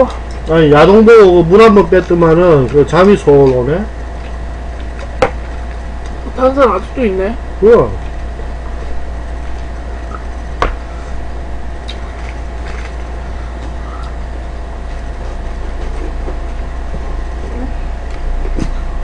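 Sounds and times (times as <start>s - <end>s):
low hum and hiss: 0.0s - 19.0s.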